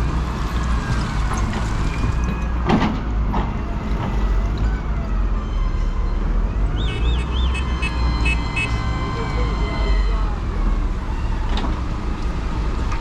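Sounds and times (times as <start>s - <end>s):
heavy vehicles and machinery rumbling: 0.0s - 13.0s.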